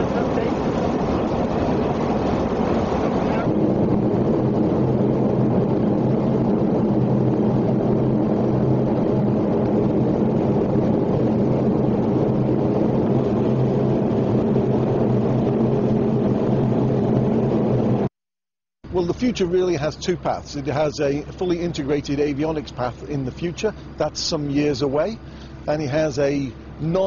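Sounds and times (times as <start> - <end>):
constant low hum: 0.0 - 18.1, 18.8 - 27.0
jet engine and airflow rush: 0.0 - 18.2, 18.8 - 27.0.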